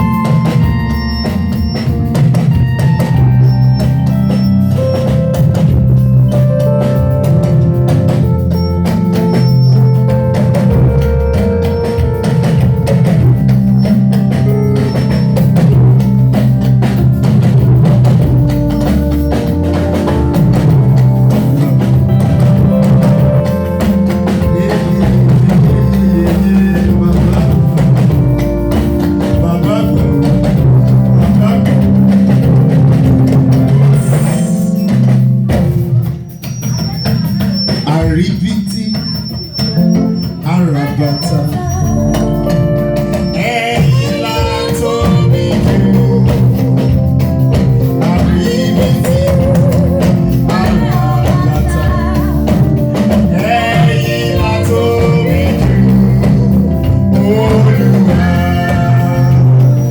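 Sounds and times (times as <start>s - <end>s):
band music with sustained chords: 0.0s - 59.9s
drum kit steady beat: 0.0s - 59.9s.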